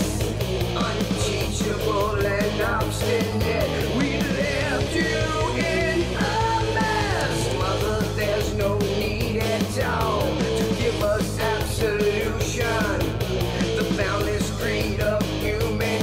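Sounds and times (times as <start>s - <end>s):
rock music with fast drums: 0.0s - 16.0s.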